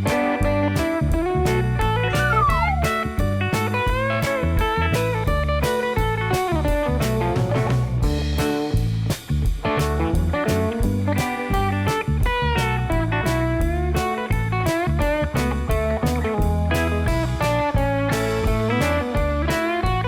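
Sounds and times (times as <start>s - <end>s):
bass: 0.0s - 20.0s
bluesy electric guitar: 0.0s - 20.0s
steady drum beat: 0.0s - 20.0s.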